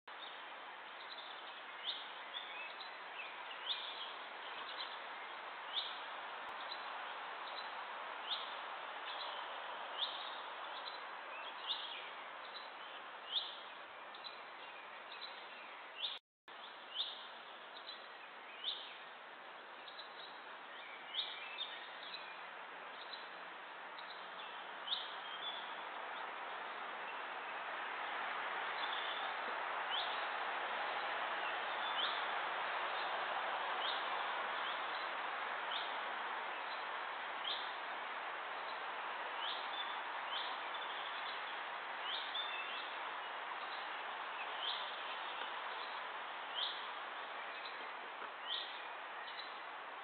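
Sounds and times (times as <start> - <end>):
steady outdoor hiss: 0.1 - 50.0.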